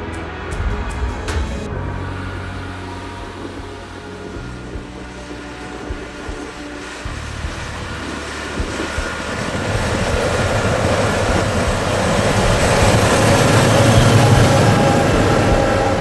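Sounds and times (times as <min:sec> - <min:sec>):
tractor engine and tyre rumble: 0:00.0 - 0:16.0
trailer knocks: 0:00.0 - 0:16.0.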